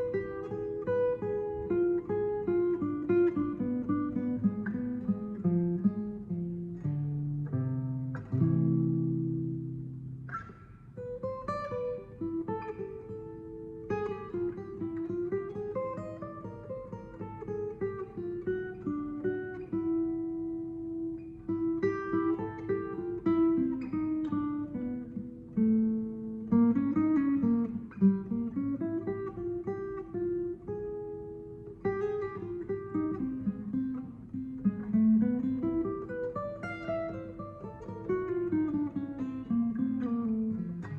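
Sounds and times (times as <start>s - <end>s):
acoustic guitar playing: 0.0s - 40.9s.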